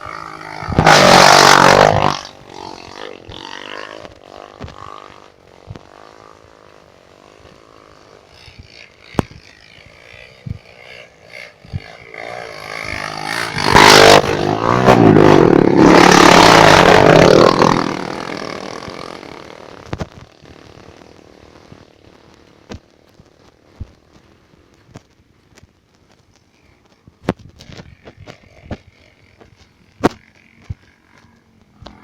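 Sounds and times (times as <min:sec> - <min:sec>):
motorcycle passing: 0:00.0 - 0:24.8, 0:26.5 - 0:32.0.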